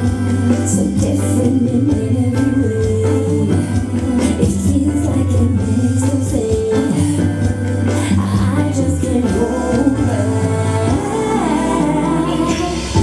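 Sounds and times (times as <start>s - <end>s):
backing music: 0.0s - 13.0s
woman singing pop song: 0.0s - 13.0s.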